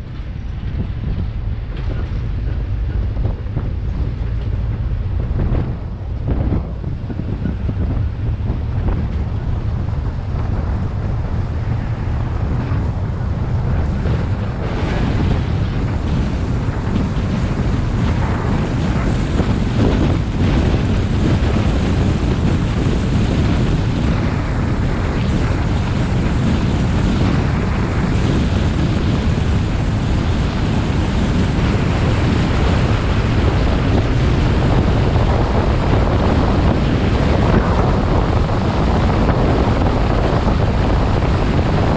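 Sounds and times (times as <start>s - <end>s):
engine noise: 0.0s - 41.9s
wind rushing over microphone: 0.0s - 41.9s.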